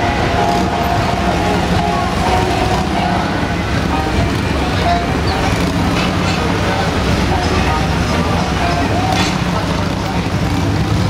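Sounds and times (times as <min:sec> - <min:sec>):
crowd chatter: 0:00.0 - 0:11.0
motorcycle engines idling: 0:00.0 - 0:11.0.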